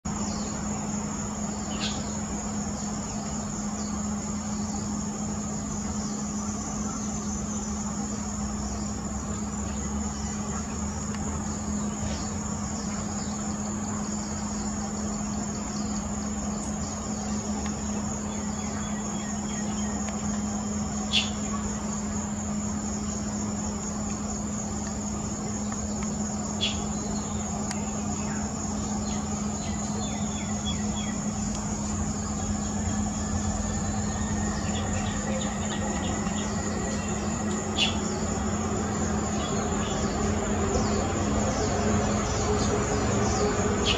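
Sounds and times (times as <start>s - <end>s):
constant low hum: 0.0s - 43.9s
high-pitched insect chorus: 0.0s - 43.9s.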